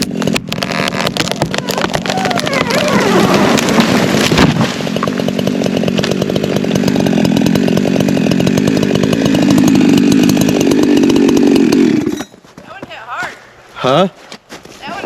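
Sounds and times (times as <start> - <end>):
chainsaw cutting a tree: 0.0 - 12.4.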